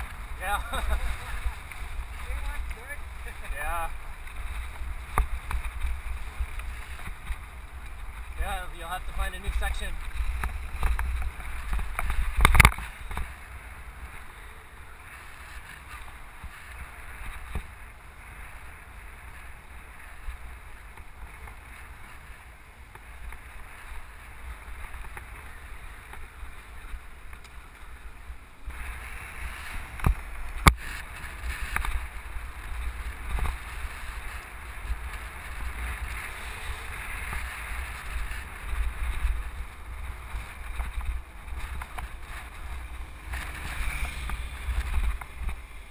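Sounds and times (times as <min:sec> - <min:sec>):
low rumble from riding: 0:00.0 - 0:45.9
wind rushing over microphone: 0:00.0 - 0:45.9.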